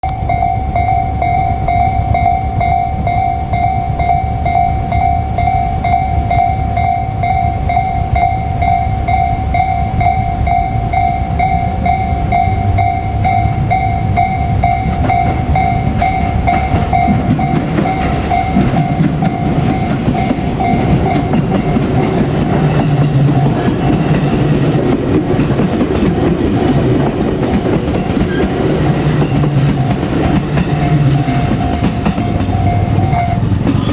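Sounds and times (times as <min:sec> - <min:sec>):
level-crossing bell ringing: 0:00.0 - 0:24.6, 0:28.9 - 0:33.9
passing train rumble and clatter: 0:00.0 - 0:33.9.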